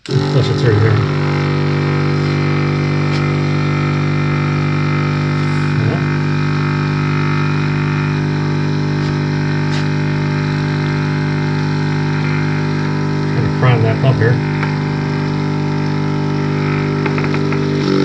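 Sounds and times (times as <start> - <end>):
electric pump humming: 0.0 - 18.0.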